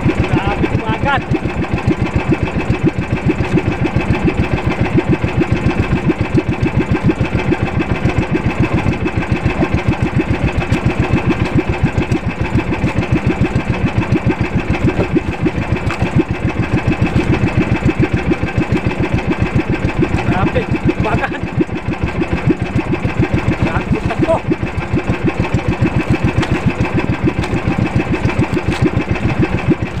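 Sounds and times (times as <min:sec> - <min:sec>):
boat engine chugging: 0:00.0 - 0:30.0.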